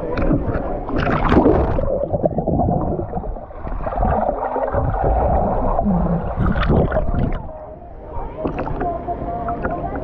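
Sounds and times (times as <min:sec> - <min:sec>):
muffled water sloshing and gurgling: 0:00.0 - 0:10.0.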